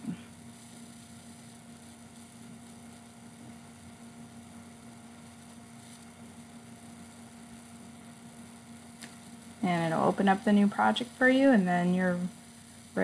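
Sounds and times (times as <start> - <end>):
faint hiss: 0.0 - 13.0
low electrical hum: 0.0 - 13.0.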